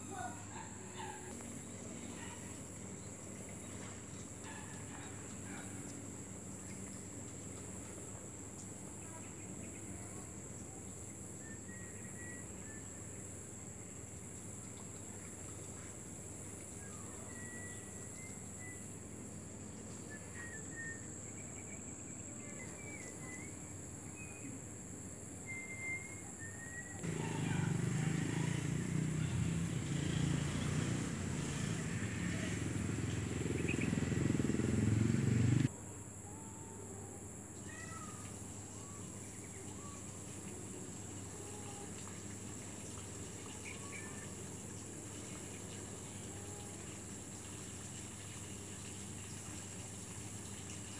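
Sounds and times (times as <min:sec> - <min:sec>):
insect chorus buzzing: 0:00.1 - 0:50.9.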